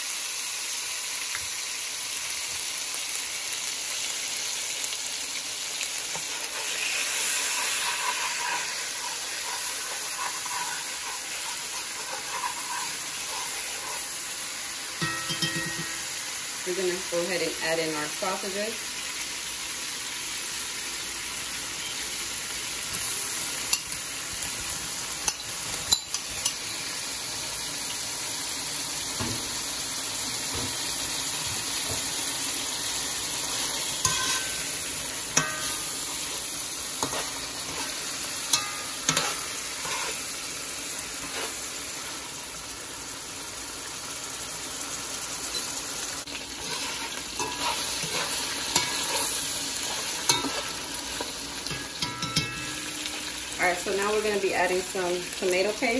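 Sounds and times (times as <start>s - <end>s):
sausage sizzling in hot oil: 0.0s - 55.9s.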